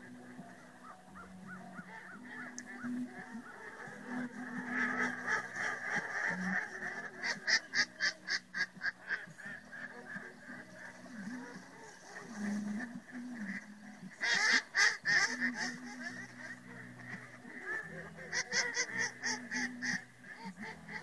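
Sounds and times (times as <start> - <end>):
flock of geese honking: 0.0 - 21.0.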